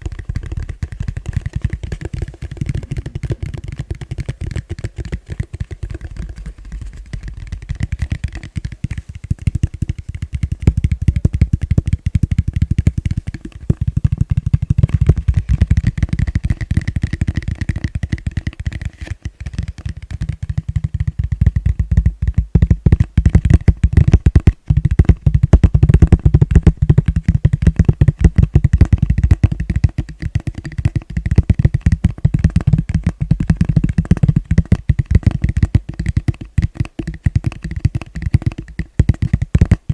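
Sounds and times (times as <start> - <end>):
fast tapping on plastic bowl: 0.0 - 39.9.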